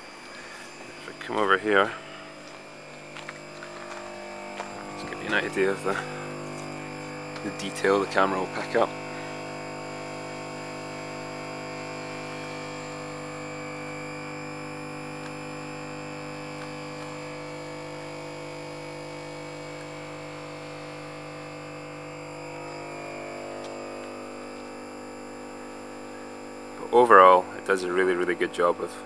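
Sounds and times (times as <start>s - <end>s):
electrical cabinet hum: 0.0s - 29.0s.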